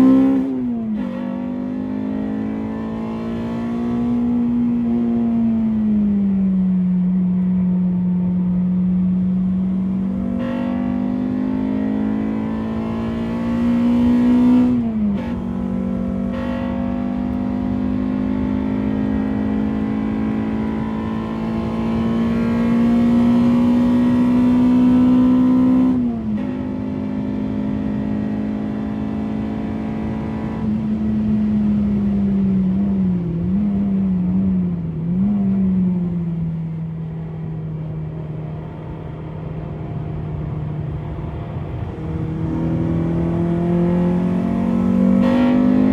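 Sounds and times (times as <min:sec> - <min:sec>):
car engine revving high: 0:00.0 - 0:06.0, 0:08.9 - 0:36.3, 0:40.2 - 0:45.9.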